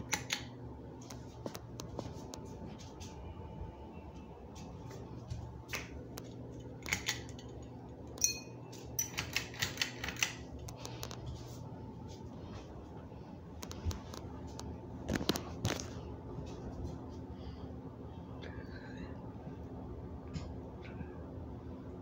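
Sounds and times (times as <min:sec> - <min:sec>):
ceiling fan humming: 0:00.0 - 0:22.0.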